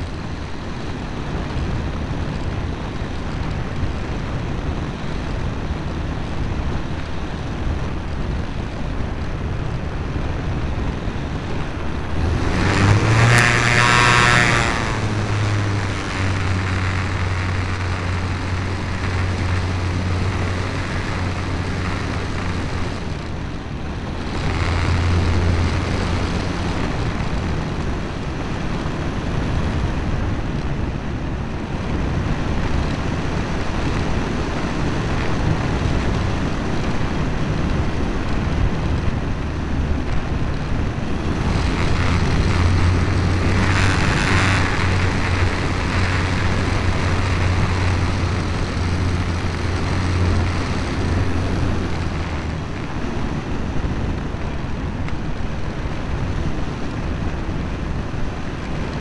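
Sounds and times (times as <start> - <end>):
model plane motor drone: 0.0 - 59.0
wind noise on microphone: 0.0 - 59.0.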